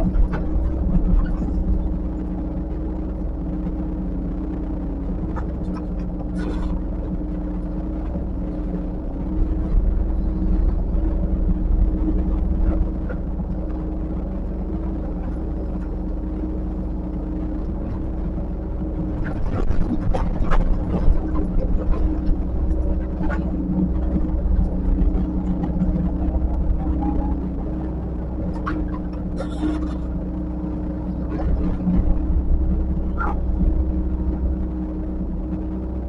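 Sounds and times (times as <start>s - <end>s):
diesel engine of earthmoving machine: 0.0s - 36.0s.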